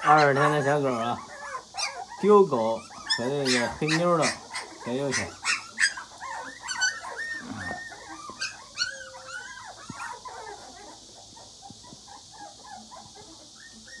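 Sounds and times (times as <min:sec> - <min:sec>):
puppies whining: 0:00.0 - 0:14.0.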